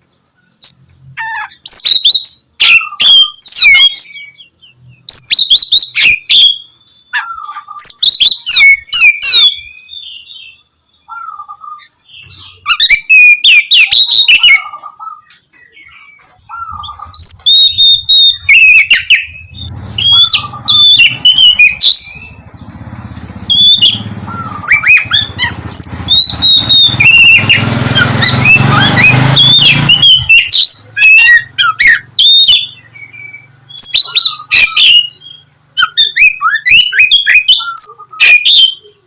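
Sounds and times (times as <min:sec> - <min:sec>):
bird singing varied whistles: 0:00.6 - 0:22.4, 0:23.5 - 0:39.0.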